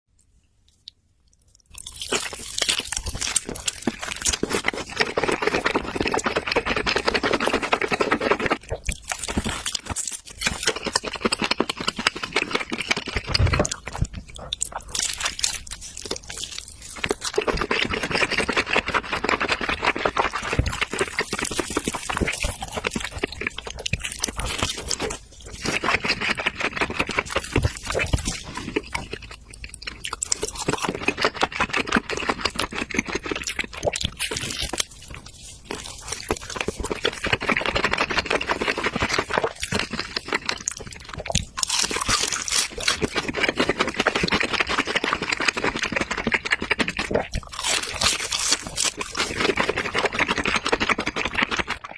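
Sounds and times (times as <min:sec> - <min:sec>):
chewing and crunching meat: 0:00.8 - 0:51.9.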